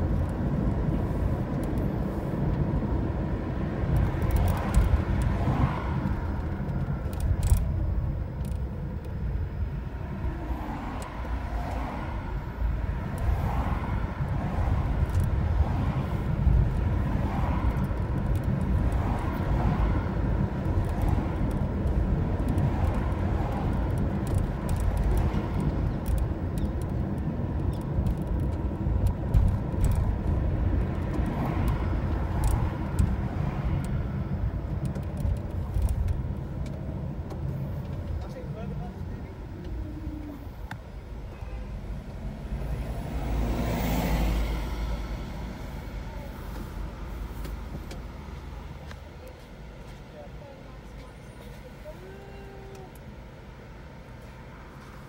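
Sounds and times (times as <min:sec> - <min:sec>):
car tyres and engine rumbling: 0:00.0 - 0:55.0.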